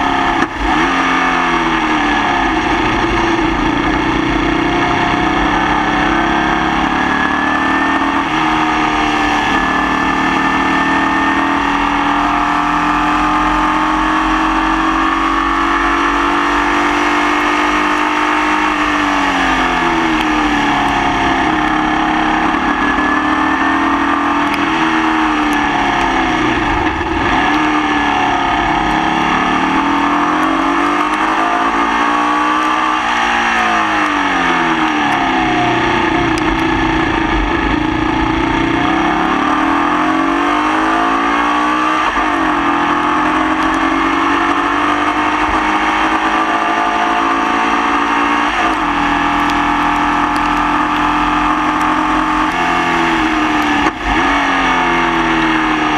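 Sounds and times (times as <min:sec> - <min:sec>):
misfiring race car engine: 0:00.0 - 0:55.9.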